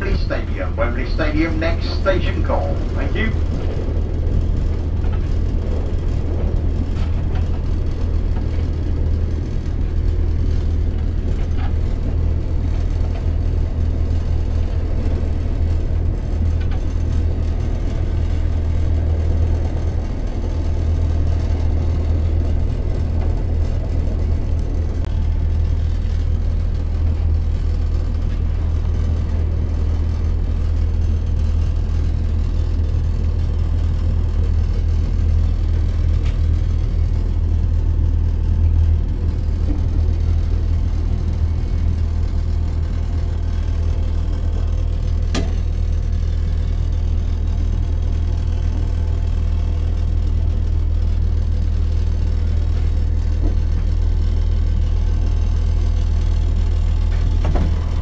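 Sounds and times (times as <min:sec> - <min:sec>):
train diesel engine drone: 0:00.0 - 0:58.0
train rumble: 0:00.0 - 0:58.0.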